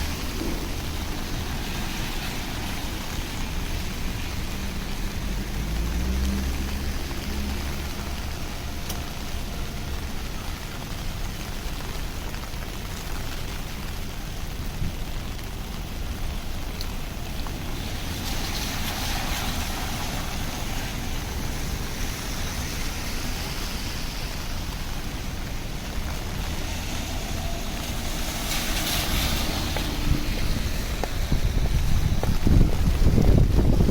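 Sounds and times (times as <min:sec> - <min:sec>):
rain on street: 0:00.0 - 0:33.9
traffic rumble: 0:00.0 - 0:33.9
vehicle passing on wet road: 0:00.0 - 0:33.9.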